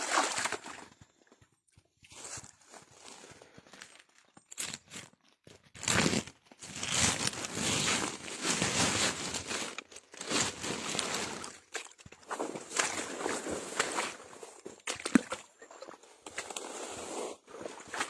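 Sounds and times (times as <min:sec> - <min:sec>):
rustling and crunching: 0:02.0 - 0:18.0.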